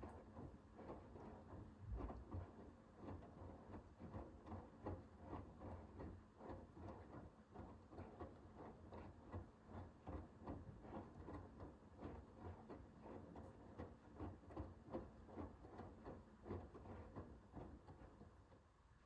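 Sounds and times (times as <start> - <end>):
laundry tumbling in washing machine: 0.0 - 18.5.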